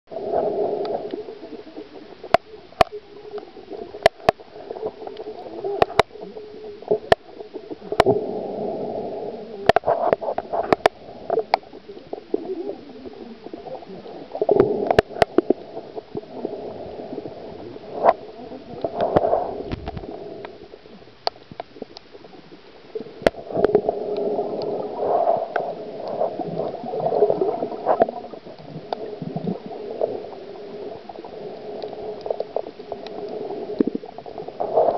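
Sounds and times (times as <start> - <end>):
muffled underwater gurgling: 0.1 - 34.9.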